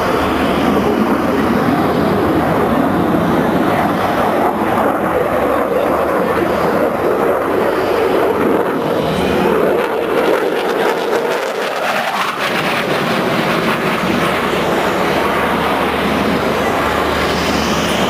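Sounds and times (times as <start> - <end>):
military aircraft flying past: 0.0 - 18.0.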